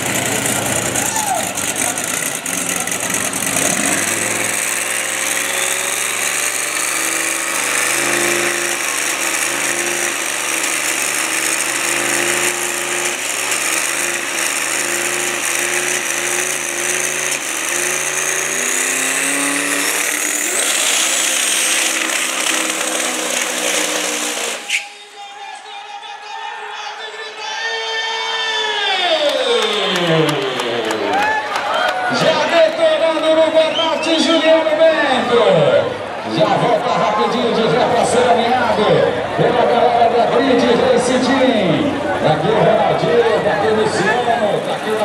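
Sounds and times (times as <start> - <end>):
dragster engine revving: 0.0 - 24.8, 32.1 - 45.0
high engine whine: 0.0 - 25.0, 32.1 - 45.0
tyre burnout: 0.0 - 25.0, 29.0 - 45.0.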